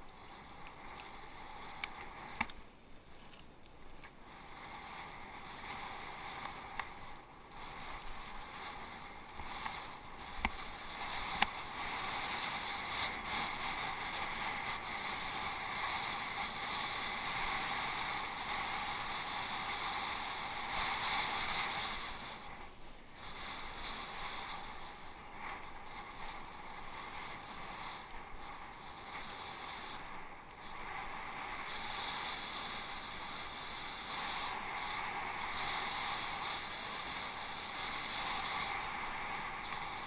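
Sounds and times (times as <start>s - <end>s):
bicycle tyres rolling hiss: 0.0s - 40.0s.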